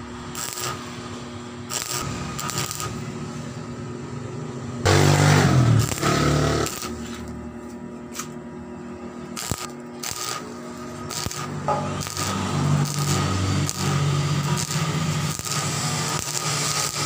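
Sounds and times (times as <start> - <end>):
welding arc crackling and buzzing: 0.0 - 3.6, 4.8 - 8.4, 9.1 - 17.0
welder electric hum: 0.0 - 17.0.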